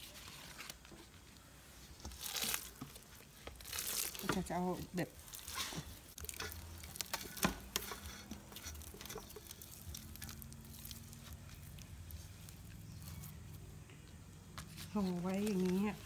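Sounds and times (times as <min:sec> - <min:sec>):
wet sticky dough smacking: 0:02.0 - 0:15.8.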